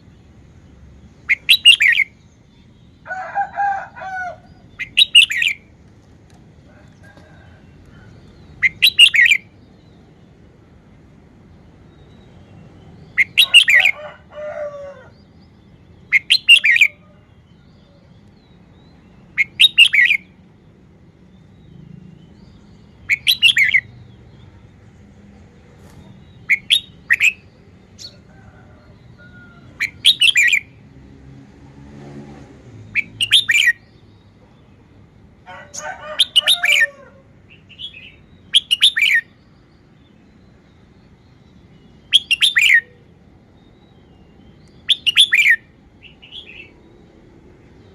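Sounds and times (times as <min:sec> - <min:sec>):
bird chirping song: 0:00.0 - 0:31.6, 0:32.4 - 0:47.9.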